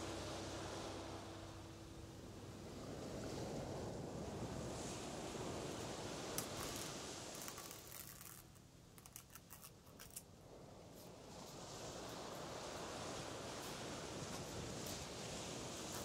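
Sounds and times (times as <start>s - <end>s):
faint steady rushing hiss: 0.0s - 16.0s.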